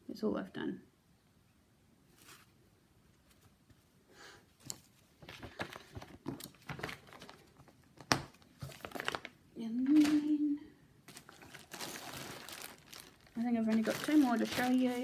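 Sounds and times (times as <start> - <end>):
fabric rustling and crinkling: 2.1 - 4.0, 4.6 - 15.0.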